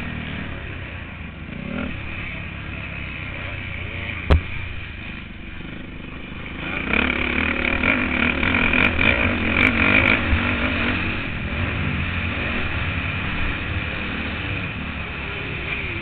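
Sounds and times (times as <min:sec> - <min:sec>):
motocross bike engine: 0:00.0 - 0:16.0.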